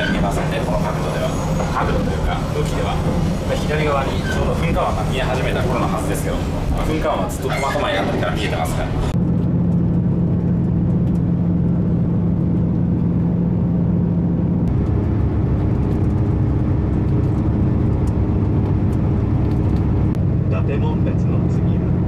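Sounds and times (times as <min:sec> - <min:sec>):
diesel engine drone: 0:00.0 - 0:22.0
train running rumble: 0:00.0 - 0:22.0.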